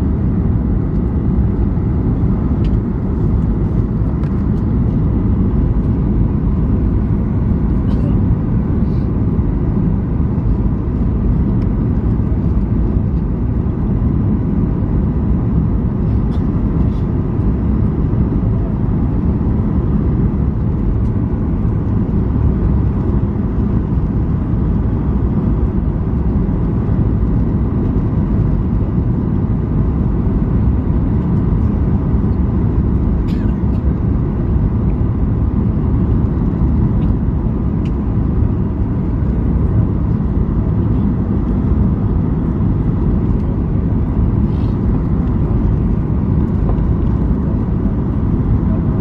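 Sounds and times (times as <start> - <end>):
airplane cabin rumble: 0.0 - 49.0.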